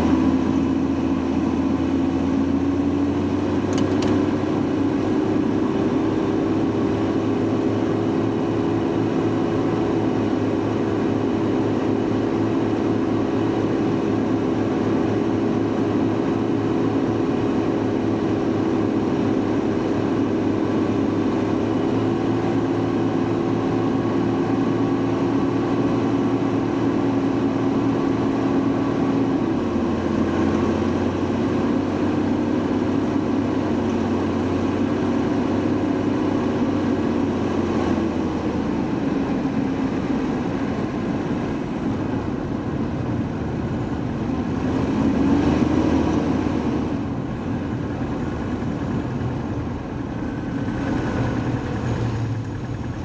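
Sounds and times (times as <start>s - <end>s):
car engine running: 0.0s - 53.0s
road noise: 0.0s - 53.0s.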